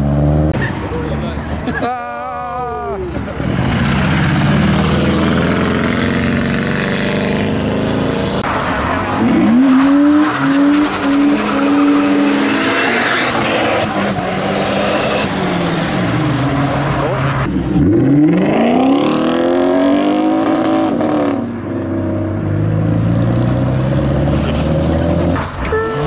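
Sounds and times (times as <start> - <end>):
car engine revving: 3.1 - 25.8.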